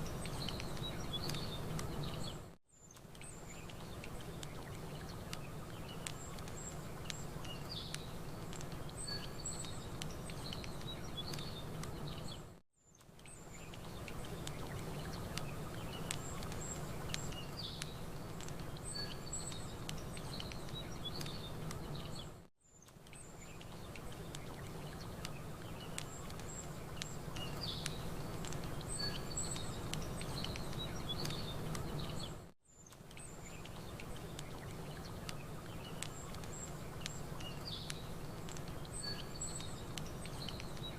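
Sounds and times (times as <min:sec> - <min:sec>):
campfire crackling and popping: 0:00.0 - 0:40.9
small birds chirping: 0:00.0 - 0:40.9.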